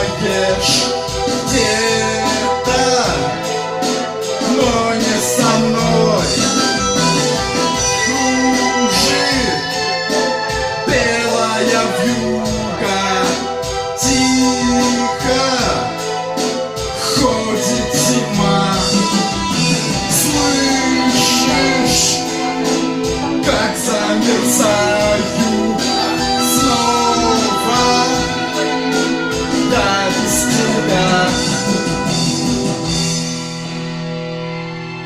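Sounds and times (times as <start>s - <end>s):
slow instrumental song: 0.0s - 35.0s.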